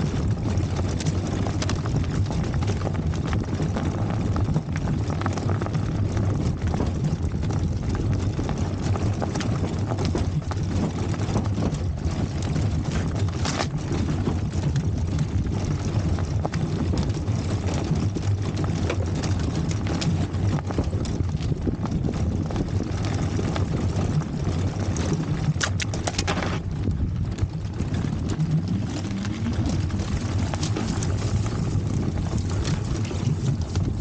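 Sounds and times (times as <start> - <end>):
tyres rumbling on dirt: 0.0 - 34.0.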